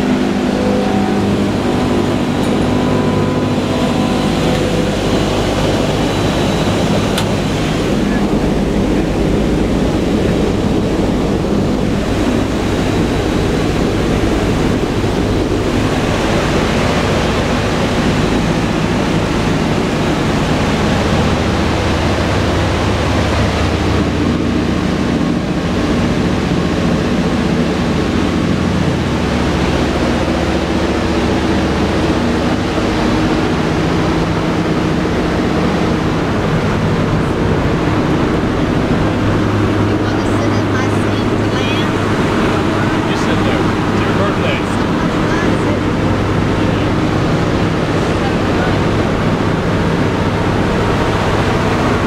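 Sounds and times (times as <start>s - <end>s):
aircraft engines droning: 0.0s - 52.0s
rushing air noise: 0.0s - 52.0s.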